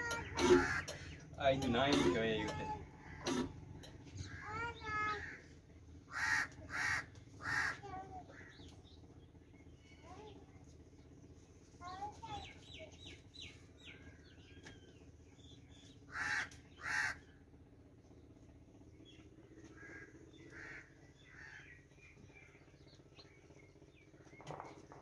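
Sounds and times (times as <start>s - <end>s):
harsh bird calls: 0.0s - 10.4s, 12.2s - 17.5s, 18.9s - 25.0s
birds chirping: 0.0s - 25.0s.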